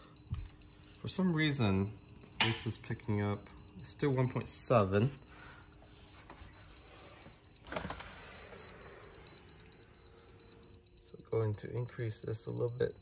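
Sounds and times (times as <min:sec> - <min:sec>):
faint high pulsing beep: 0:00.0 - 0:13.0.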